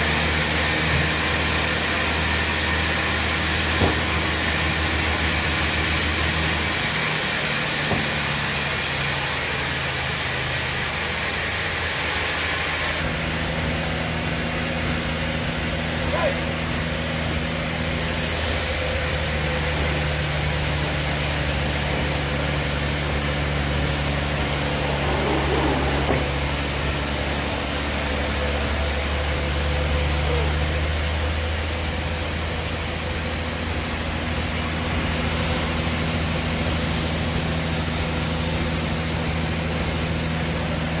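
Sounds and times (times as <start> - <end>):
sawmill machinery droning: 0.0 - 41.0.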